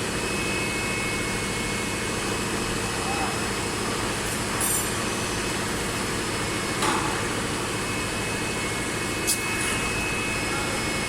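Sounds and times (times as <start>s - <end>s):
injection moulding machine humming: 0.0s - 11.0s.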